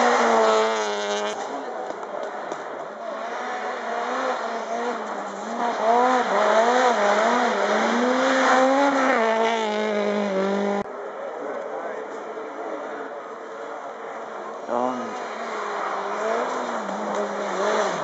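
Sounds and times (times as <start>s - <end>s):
rally car engine revving: 0.0s - 11.0s, 12.0s - 18.0s.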